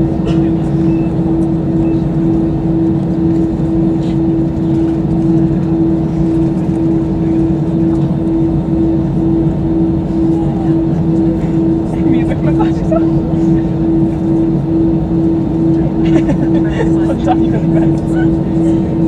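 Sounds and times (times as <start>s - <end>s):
airplane cabin drone: 0.0s - 19.0s.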